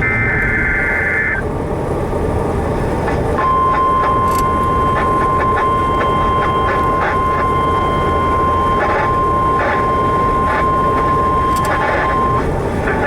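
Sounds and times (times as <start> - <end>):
radio static with crackles: 0.0 - 1.4, 3.0 - 13.0.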